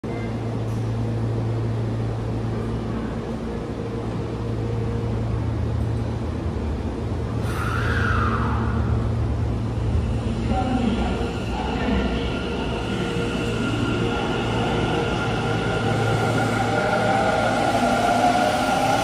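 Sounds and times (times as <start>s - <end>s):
train electrical hum: 0.0s - 19.0s.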